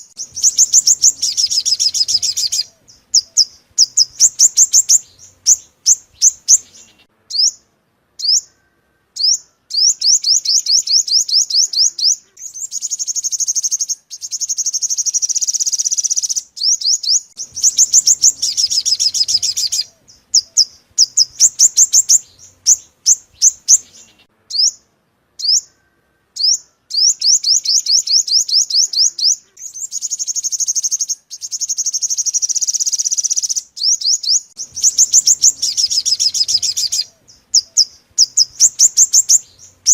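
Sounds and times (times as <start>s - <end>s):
bird song chips and trills: 0.0s - 39.9s.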